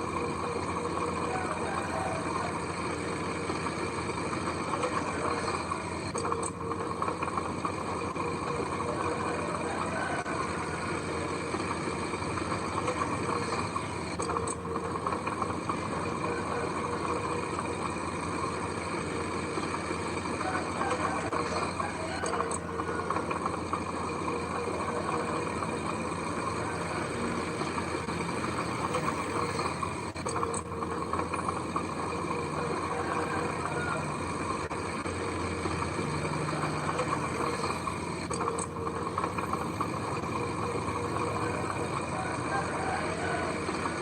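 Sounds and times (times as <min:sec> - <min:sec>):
heavy vehicle engine running: 0:00.0 - 0:44.0.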